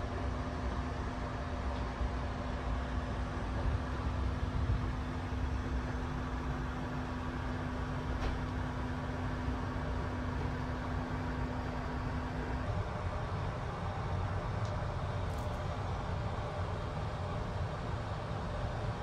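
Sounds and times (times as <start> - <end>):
train low rumble and hum: 0.0 - 19.0.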